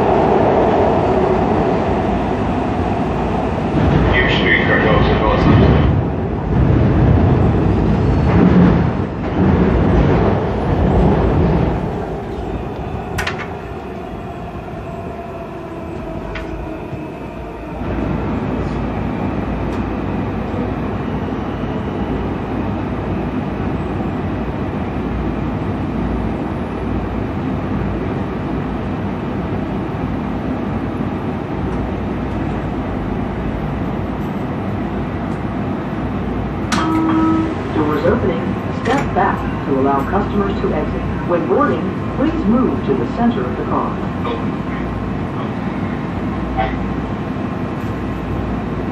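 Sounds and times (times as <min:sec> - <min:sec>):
train wheels rumbling in tunnel: 0:00.0 - 0:48.9.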